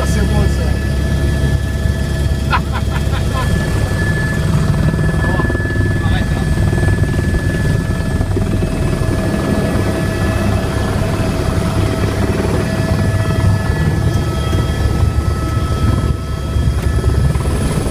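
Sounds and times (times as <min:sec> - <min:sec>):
helicopter rotor rumble: 0:00.0 - 0:17.9
turbine whine: 0:00.0 - 0:17.9.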